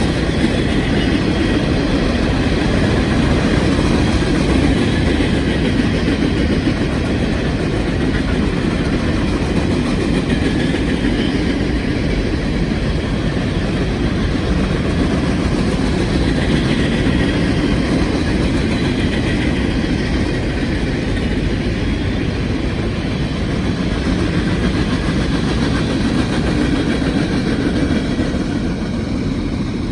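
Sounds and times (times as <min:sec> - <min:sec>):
freight train wheels rumbling on rails: 0:00.0 - 0:29.9.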